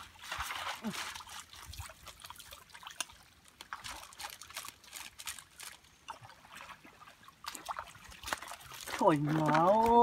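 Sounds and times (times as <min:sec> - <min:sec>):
water trickling through channel: 0:00.0 - 0:10.0
small splashes and clicks: 0:00.2 - 0:10.0.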